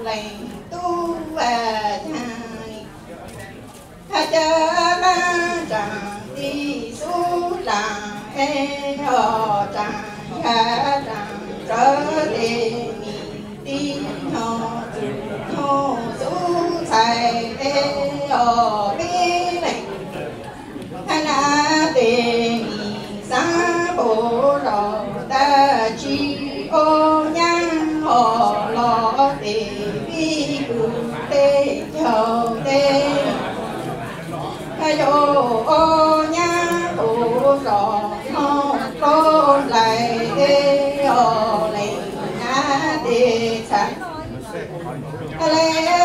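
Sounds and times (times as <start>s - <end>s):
woman singing chanted poem: 0.0s - 2.9s, 4.1s - 20.0s, 21.1s - 33.5s, 34.8s - 44.3s, 45.4s - 46.0s.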